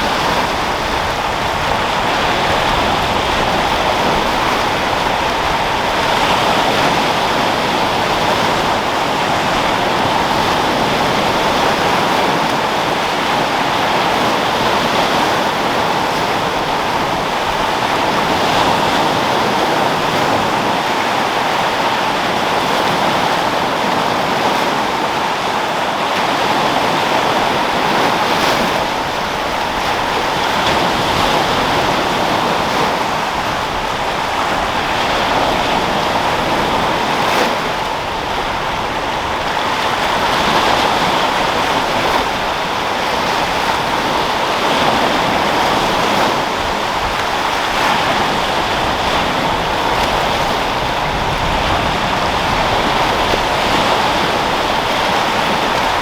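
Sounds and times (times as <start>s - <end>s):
waves breaking on rocky shore: 0.0s - 56.0s
wind: 0.0s - 56.0s.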